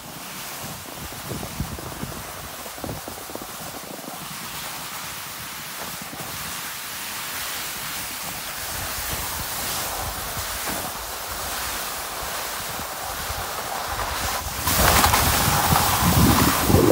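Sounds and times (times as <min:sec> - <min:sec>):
wind on microphone: 0:00.0 - 0:06.6, 0:08.1 - 0:16.9.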